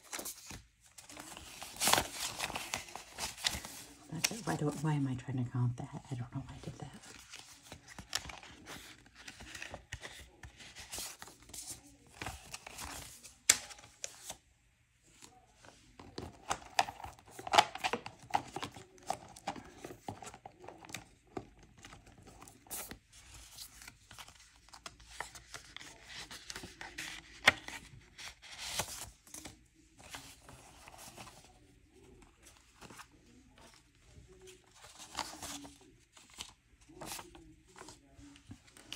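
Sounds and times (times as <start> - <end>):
banknotes rustling and crinkling: 0.0 - 14.5, 15.1 - 38.9.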